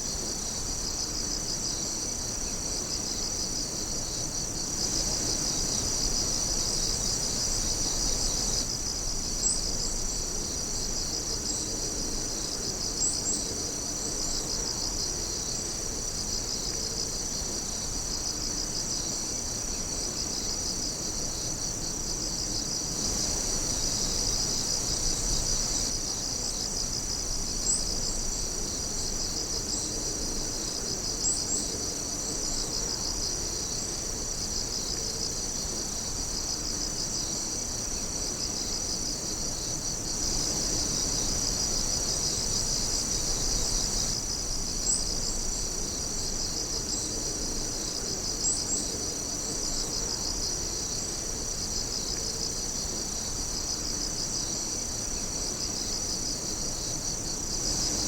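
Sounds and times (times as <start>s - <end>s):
crickets trilling and chirping: 0.0s - 58.0s.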